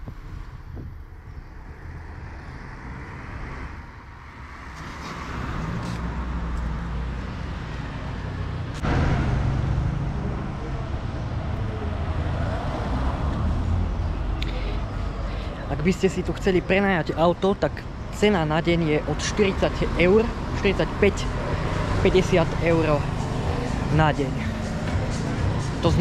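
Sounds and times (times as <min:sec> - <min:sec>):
rumble of passing vehicles: 0:00.0 - 0:26.0.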